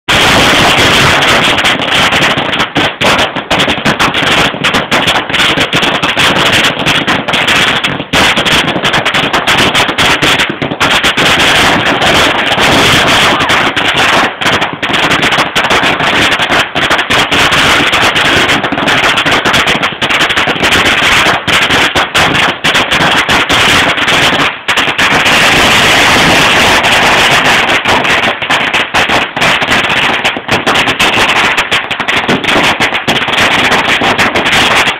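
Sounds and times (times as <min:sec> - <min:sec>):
firecrackers crackling: 0:00.0 - 0:34.9.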